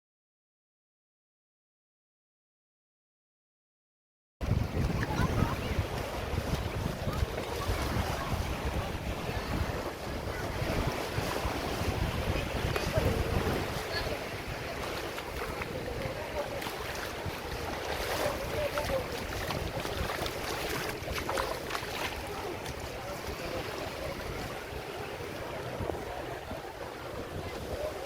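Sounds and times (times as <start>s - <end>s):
sea water washing: 4.4s - 28.0s
wind buffeting microphone: 4.4s - 28.0s.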